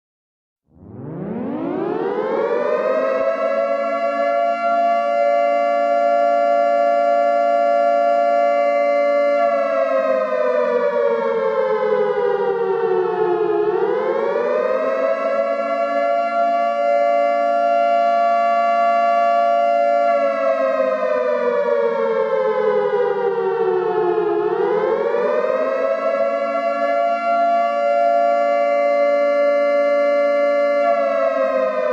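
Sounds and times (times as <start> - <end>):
warning siren wailing: 0.7 - 31.9.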